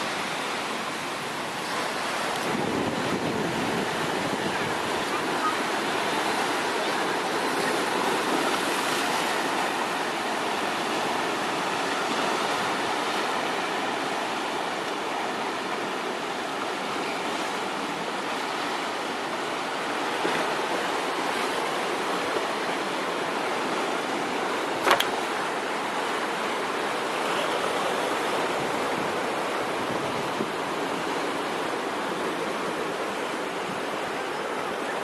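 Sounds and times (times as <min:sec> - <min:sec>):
ocean surf breaking: 0:00.0 - 0:35.0.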